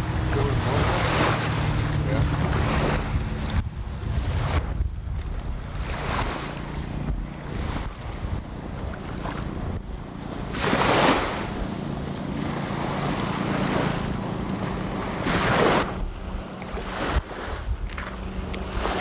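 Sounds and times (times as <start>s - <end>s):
motorboat engine hum: 0.0s - 19.0s
rushing water: 0.0s - 19.0s
wind buffeting microphone: 0.0s - 19.0s.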